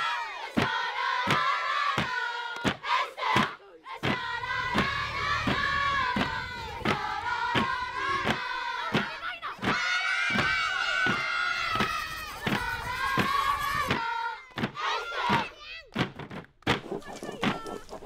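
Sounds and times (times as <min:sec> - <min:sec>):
choir singing: 0:00.0 - 0:15.5.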